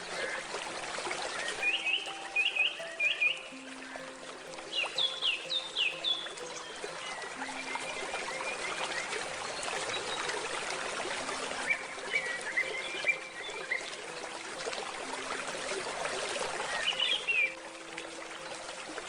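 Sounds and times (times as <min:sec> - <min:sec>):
flowing stream water: 0:00.0 - 0:19.0
small birds chirping: 0:00.0 - 0:19.0.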